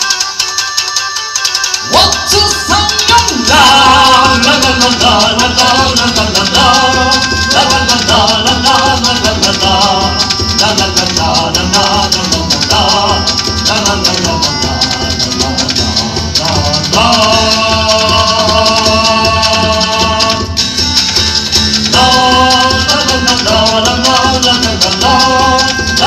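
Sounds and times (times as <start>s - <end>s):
live band playing: 0.0s - 26.0s.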